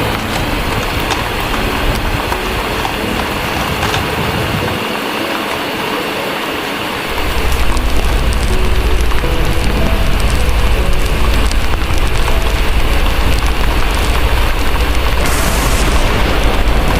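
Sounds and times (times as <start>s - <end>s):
distant thunder rumble: 0.0s - 4.9s, 7.1s - 16.9s
heavy rain: 0.0s - 16.9s
wood fire crackling: 0.0s - 16.9s.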